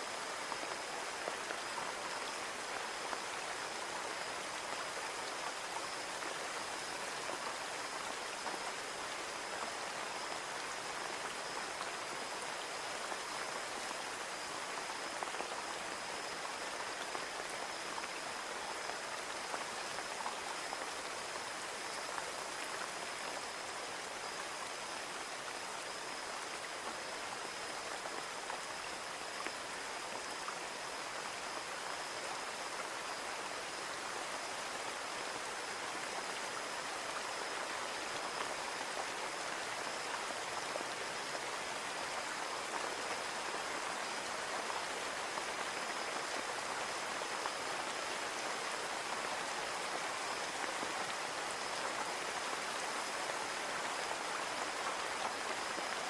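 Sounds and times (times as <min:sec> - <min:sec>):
rain falling on a window: 0:00.1 - 0:56.0.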